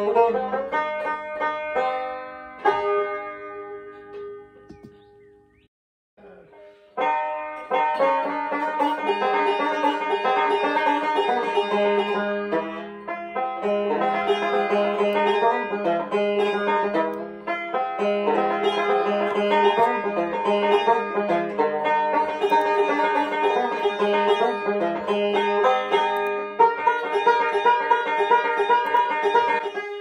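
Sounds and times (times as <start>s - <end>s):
picked string-band tune: 0.0s - 4.9s, 6.2s - 30.0s.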